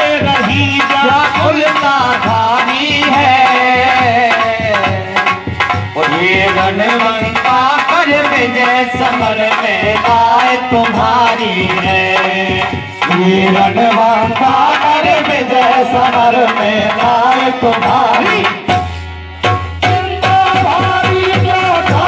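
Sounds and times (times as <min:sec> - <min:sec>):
hand drum playing: 0:00.0 - 0:22.0.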